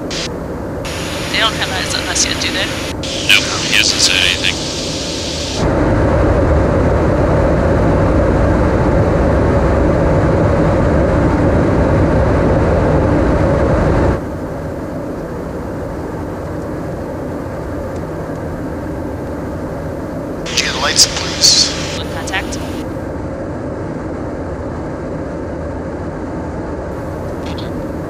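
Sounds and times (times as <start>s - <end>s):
constant hum: 0.0s - 28.0s
fighter jet roaring in flight: 0.0s - 28.0s.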